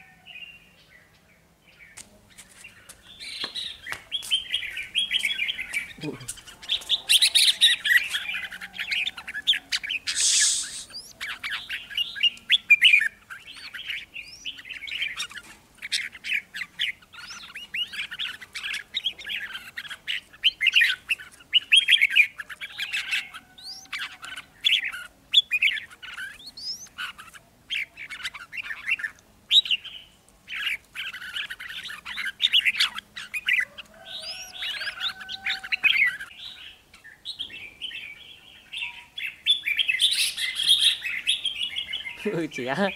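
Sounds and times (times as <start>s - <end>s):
birds chirping and singing: 0.0s - 42.9s.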